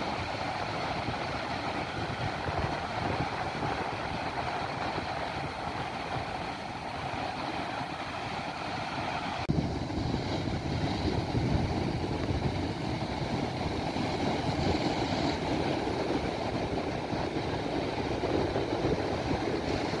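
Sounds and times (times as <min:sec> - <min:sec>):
heavy surf breaking: 0:00.0 - 0:20.0
white water washing up beach: 0:00.0 - 0:20.0.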